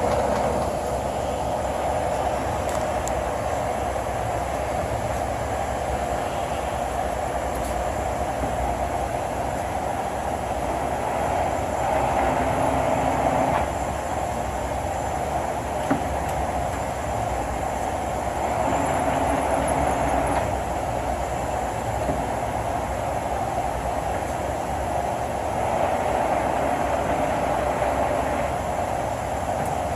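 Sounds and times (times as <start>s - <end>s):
lathe running: 0.0s - 29.9s.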